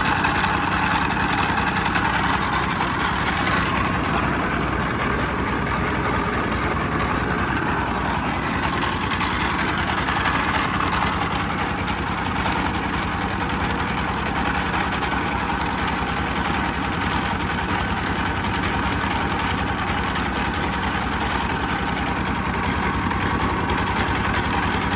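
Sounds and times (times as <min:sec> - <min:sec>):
rice-milling machine running: 0:00.0 - 0:24.9.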